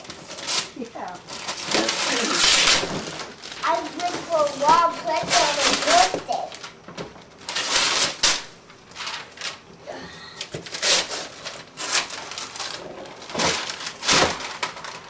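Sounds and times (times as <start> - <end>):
wrapping paper tearing: 0.0 - 9.7, 10.3 - 15.0.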